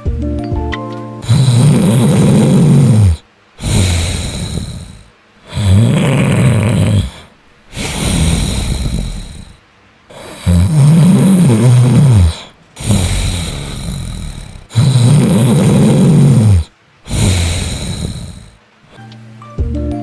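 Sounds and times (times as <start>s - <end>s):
hissing breath: 0.9s - 19.1s
person snoring loudly: 1.2s - 19.1s.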